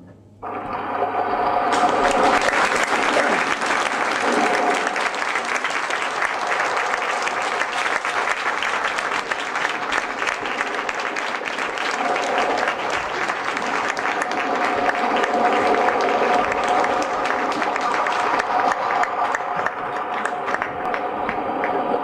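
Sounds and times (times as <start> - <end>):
audience applauding: 1.7 - 22.0.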